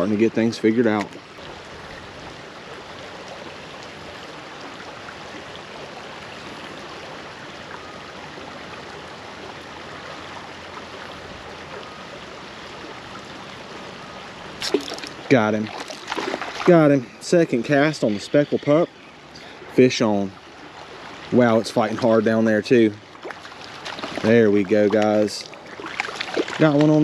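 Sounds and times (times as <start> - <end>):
creek water running over riffle: 0.0 - 27.0.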